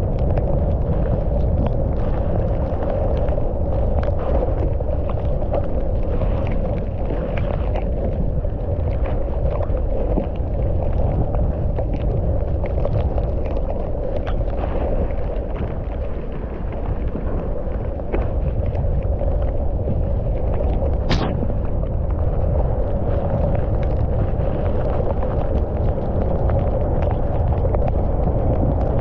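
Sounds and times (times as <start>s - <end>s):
wind and tyre rolling rumble: 0.0s - 29.0s.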